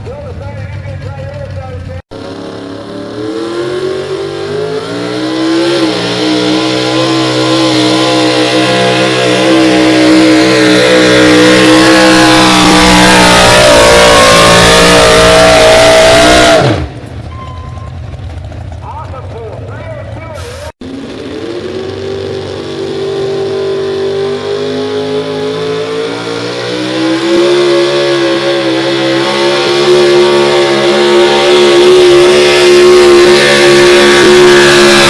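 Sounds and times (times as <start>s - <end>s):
truck engine at full throttle: 0.0s - 35.0s.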